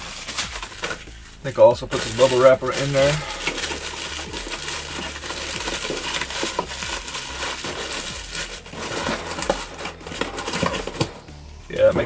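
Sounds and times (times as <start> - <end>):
cardboard flaps scraping and clicking: 0.0 - 11.3
bubble wrap crinkling: 0.0 - 11.6.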